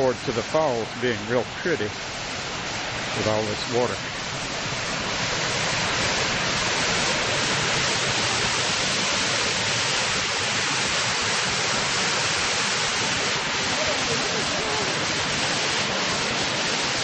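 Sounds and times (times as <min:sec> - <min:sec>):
mountain creek roaring: 0:00.0 - 0:17.0.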